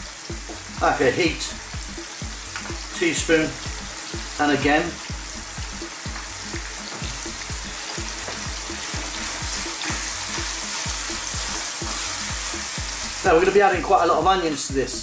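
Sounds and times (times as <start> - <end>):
background music beat: 0.0 - 15.0
meat sizzling in oil: 0.0 - 15.0.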